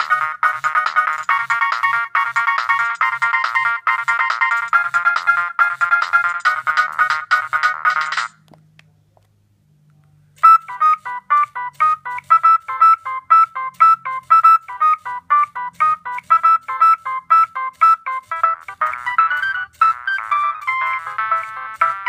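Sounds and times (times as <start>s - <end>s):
mobile phone ringtone beeps: 0.0s - 8.3s, 10.4s - 22.0s.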